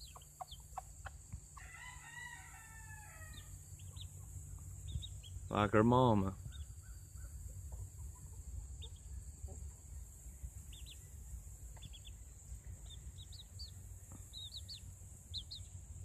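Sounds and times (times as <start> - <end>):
chicks peeping: 0.0 - 1.7, 2.8 - 16.0.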